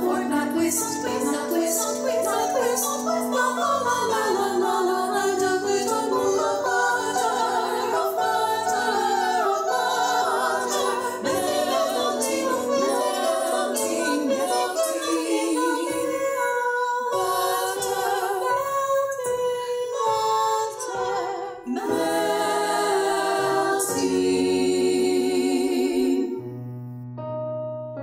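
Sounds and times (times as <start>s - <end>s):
choir singing a cappella: 0.0s - 26.6s.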